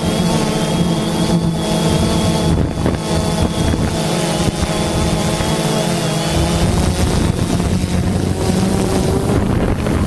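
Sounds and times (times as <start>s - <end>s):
drone propellers buzzing: 0.0s - 10.0s
wind on microphone: 0.0s - 10.0s.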